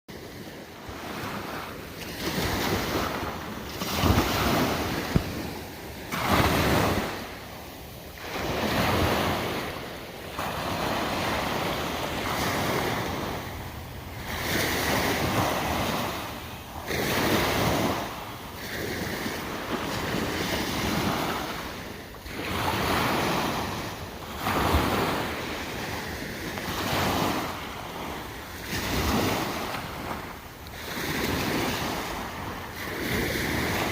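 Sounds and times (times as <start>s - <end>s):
waves breaking: 0.1s - 33.9s.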